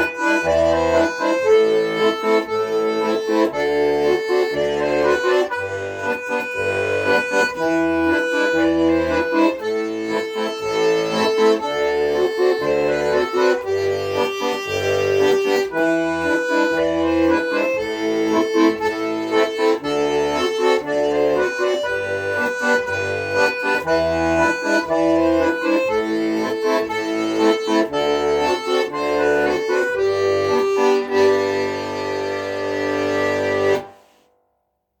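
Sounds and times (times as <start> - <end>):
pulsing bass accompaniment: 0.0 - 33.9
accordion melody: 0.0 - 34.3.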